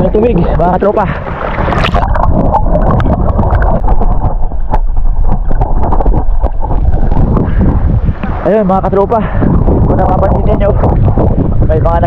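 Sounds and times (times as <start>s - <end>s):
underwater rumble and sloshing: 0.0s - 12.0s.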